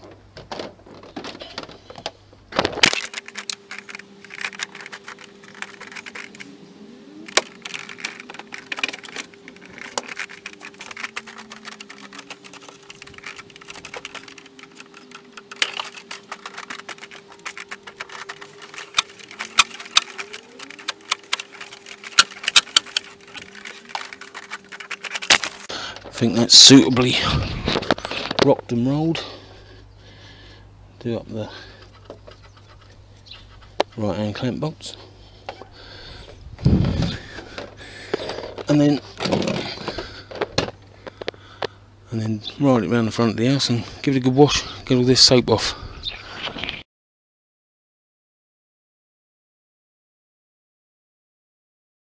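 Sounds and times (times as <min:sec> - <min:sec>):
faint steady hum: 0:00.0 - 0:46.8.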